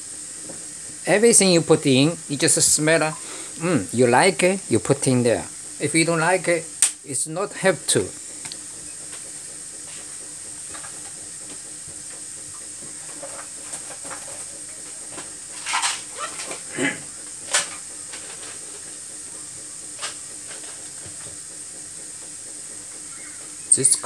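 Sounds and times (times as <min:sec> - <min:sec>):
broth boiling in a pot: 0:00.0 - 0:24.0.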